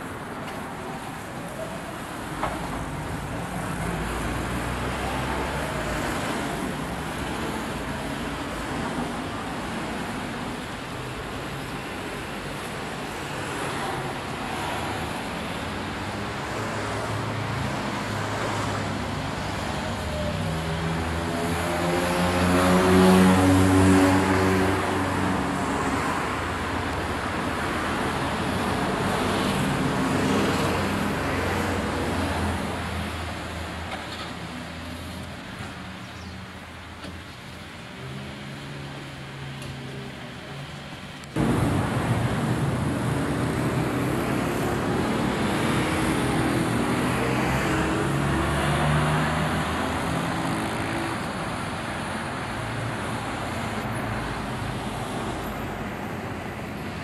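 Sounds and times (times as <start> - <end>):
cars passing: 0.0 - 57.0.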